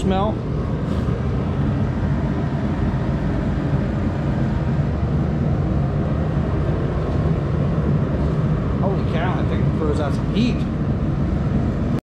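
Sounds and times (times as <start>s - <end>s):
heater blower rushing hum: 0.0s - 12.0s.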